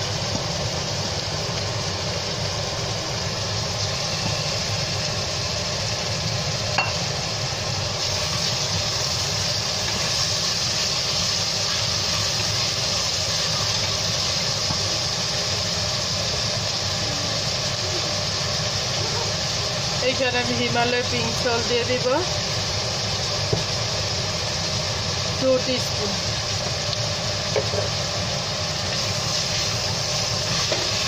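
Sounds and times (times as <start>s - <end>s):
vegetables sizzling in hot oil: 0.0s - 31.0s.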